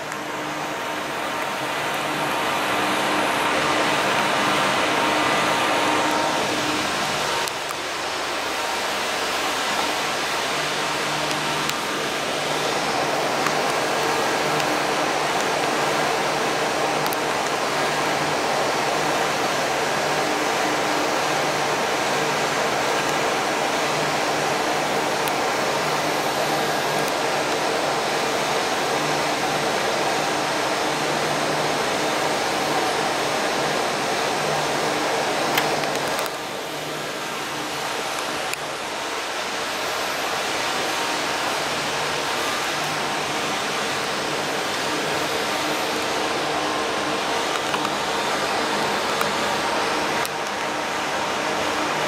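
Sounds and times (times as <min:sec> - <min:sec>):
ventilation hiss and hum: 0:00.0 - 0:52.0.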